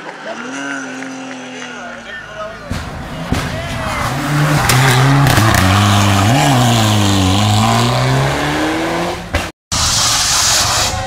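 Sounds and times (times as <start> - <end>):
rally car engine: 0.0 - 11.0.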